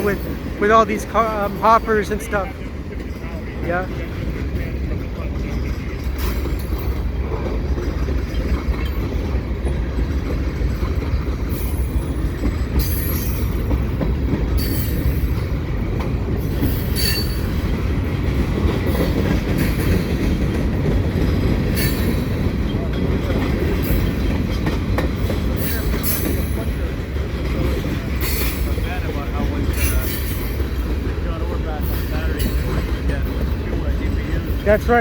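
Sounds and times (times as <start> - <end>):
freight train cars rumbling past: 0.0 - 35.0.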